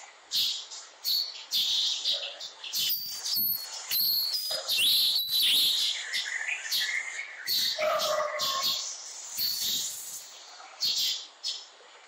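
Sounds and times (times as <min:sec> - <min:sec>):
birds chirping: 0:00.0 - 0:11.7.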